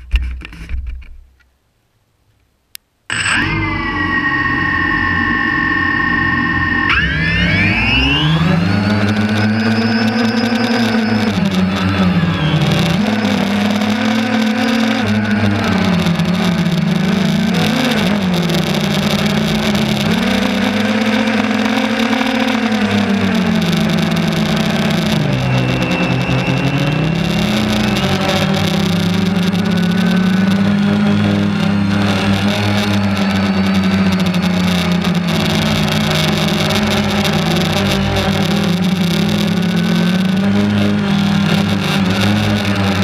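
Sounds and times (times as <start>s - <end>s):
drone propellers whirring: 3.1s - 43.0s.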